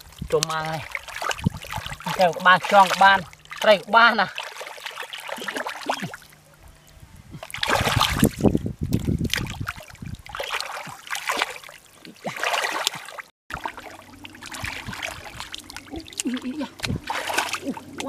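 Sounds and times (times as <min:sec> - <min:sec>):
muddy water sloshing and splashing: 0:00.0 - 0:18.0.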